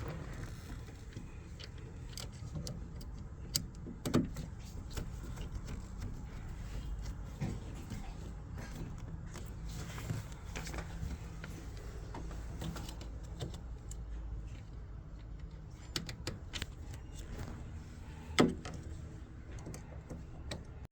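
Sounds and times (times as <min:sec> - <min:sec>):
light clicks and taps of parts: 0:00.1 - 0:20.9.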